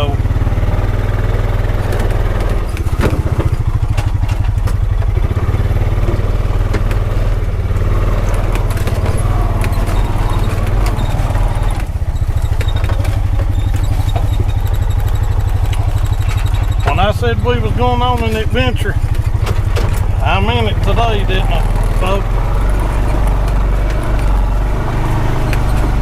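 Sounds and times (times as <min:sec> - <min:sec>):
vehicle engine running: 0:00.0 - 0:26.0
vehicle rattles and knocks: 0:00.0 - 0:26.0.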